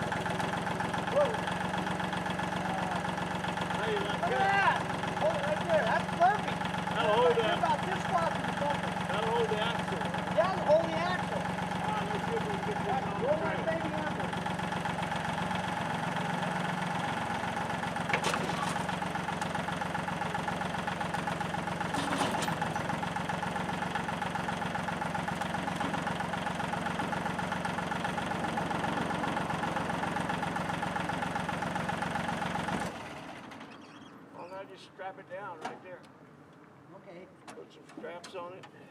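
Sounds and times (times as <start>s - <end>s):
engine idling: 0.0s - 34.3s.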